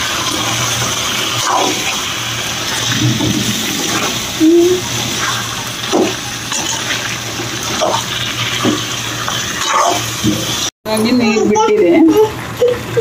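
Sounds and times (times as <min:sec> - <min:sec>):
chicken and onions sizzling: 0:00.0 - 0:10.7.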